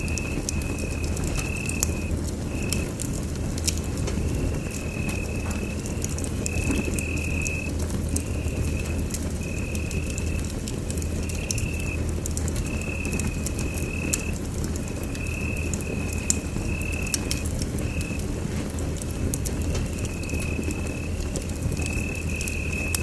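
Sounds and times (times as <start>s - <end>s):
sharp pops from fire: 0.0s - 23.0s
wood fire crackling: 0.0s - 23.0s.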